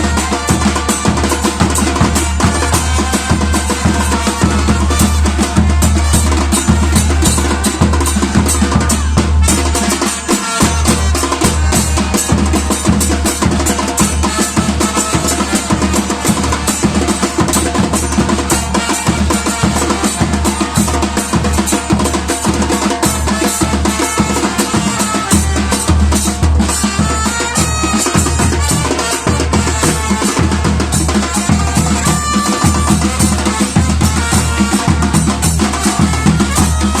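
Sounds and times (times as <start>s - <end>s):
drum ensemble groove: 0.0s - 37.0s
light percussion: 0.0s - 37.0s.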